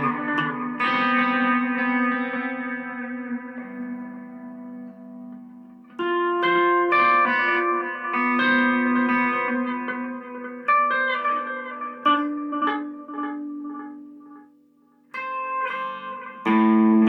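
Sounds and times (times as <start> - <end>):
guitar with effects: 0.0 - 17.0.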